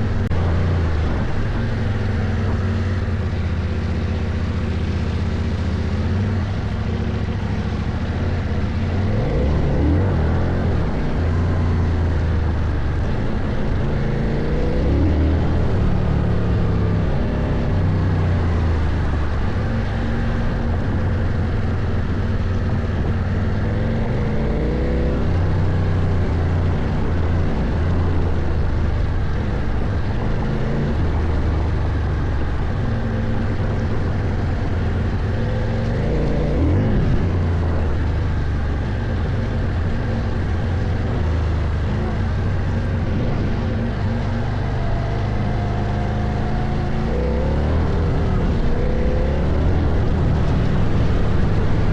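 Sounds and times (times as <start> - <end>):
motorcycle engine under load: 0.0 - 51.9.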